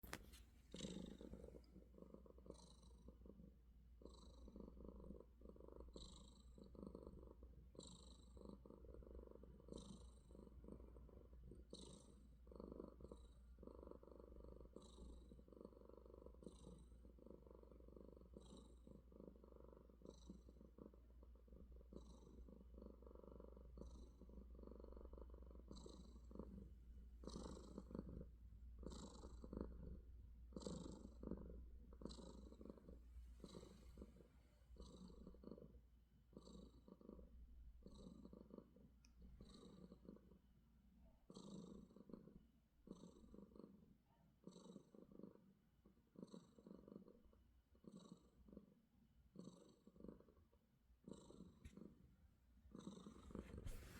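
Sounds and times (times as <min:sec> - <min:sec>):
cat purring: 0:00.0 - 0:53.9.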